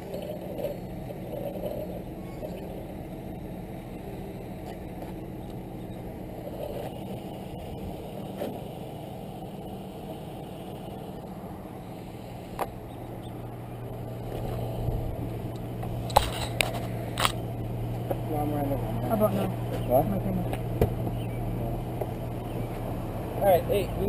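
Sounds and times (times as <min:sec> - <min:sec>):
small engines idling: 0:00.0 - 0:24.0.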